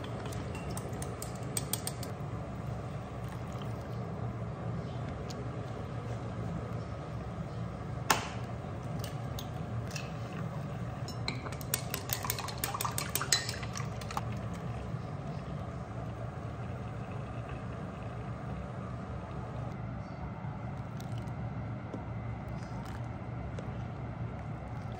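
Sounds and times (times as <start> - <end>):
low background hum: 0.0 - 24.9.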